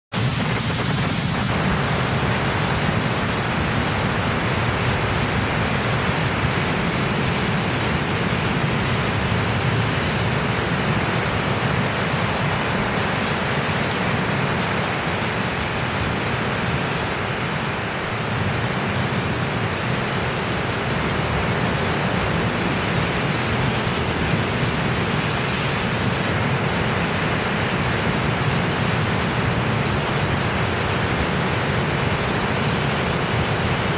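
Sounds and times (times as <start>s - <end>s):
surf breaking over rocks: 0.2s - 33.9s.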